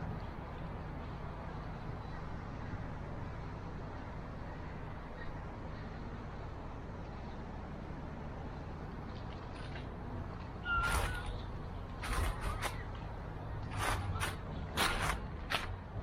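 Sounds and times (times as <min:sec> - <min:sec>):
low mechanical hum and rumble: 0:00.0 - 0:16.0.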